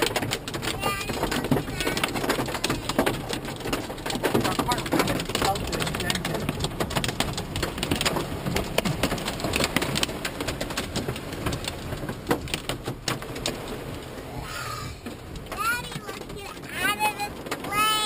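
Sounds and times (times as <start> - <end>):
hail and rain on car roof: 0.0 - 18.0.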